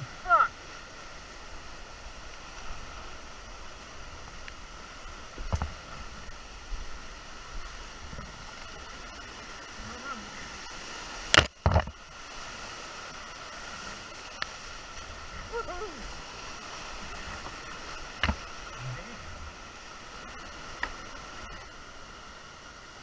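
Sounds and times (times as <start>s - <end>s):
creek water rushing: 0.0s - 23.0s
paddle splashing: 0.0s - 23.0s.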